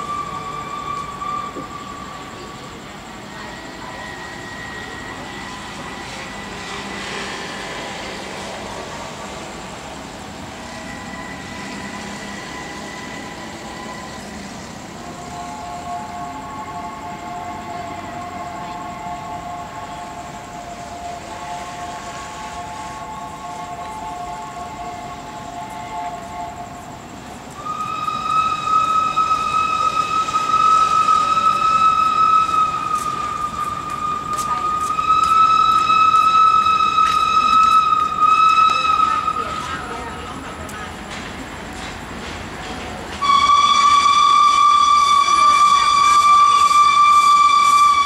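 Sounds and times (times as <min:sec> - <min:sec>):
distant steam locomotive approaching: 0:00.0 - 0:48.0
high warning tones: 0:00.0 - 0:48.0.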